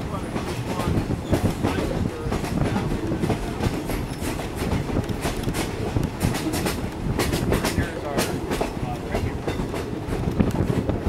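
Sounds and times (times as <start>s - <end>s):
train wheels rumbling on rails: 0.0s - 11.0s
clacks and rattles: 0.1s - 11.0s.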